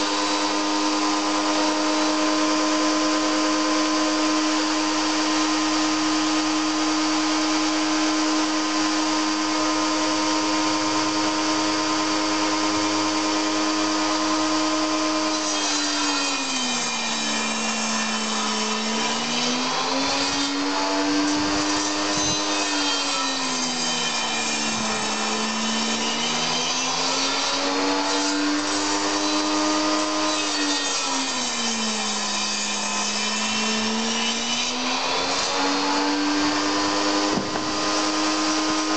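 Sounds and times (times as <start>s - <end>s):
table saw whine: 0.0s - 38.9s.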